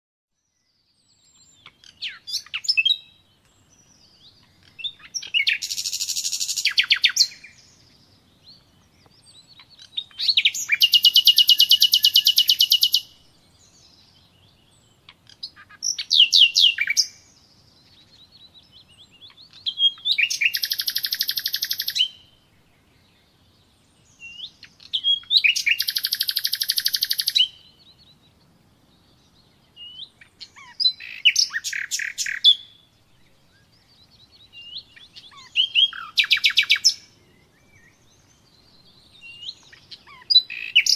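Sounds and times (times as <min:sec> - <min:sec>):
songbird singing trill: 0:00.3 - 0:40.9.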